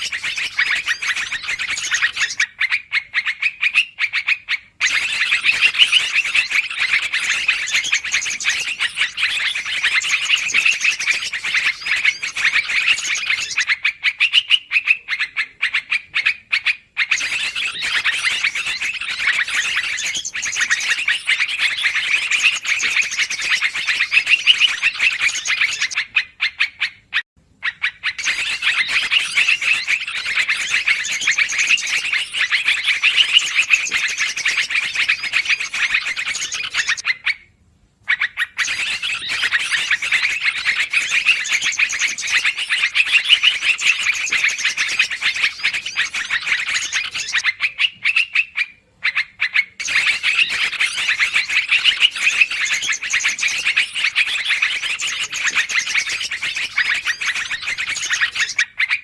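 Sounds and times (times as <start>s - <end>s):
bulbul chattering: 0.0s - 26.9s, 27.7s - 37.2s, 38.6s - 58.9s.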